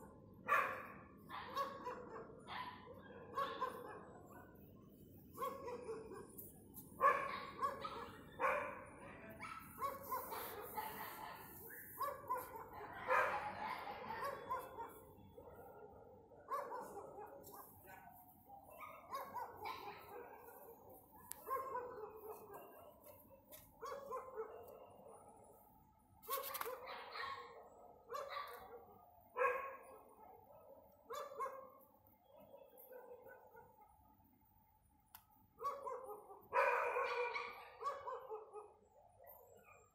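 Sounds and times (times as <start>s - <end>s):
dogs barking: 0.4s - 4.6s, 5.3s - 25.6s, 26.3s - 34.0s, 35.6s - 39.9s.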